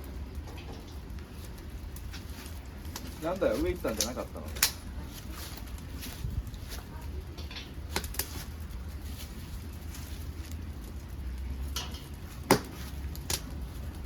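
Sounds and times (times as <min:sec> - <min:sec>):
low stove rumble: 0:00.0 - 0:14.0
wood crackling and popping: 0:00.0 - 0:14.0.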